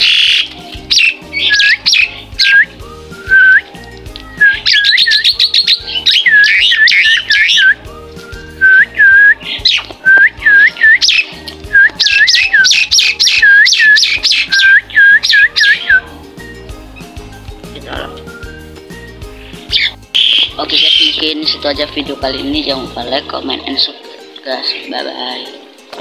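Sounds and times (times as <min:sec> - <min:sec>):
bird singing whistled notes: 0:00.0 - 0:16.8, 0:18.2 - 0:23.1
background music: 0:00.0 - 0:26.0.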